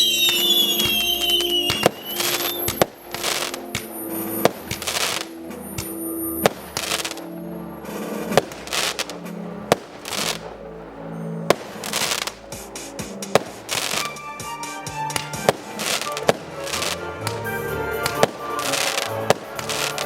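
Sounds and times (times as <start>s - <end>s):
fireworks bangs: 0.0s - 10.8s, 11.4s - 20.0s
fireworks hissing: 0.0s - 20.0s
music playing: 0.0s - 20.0s.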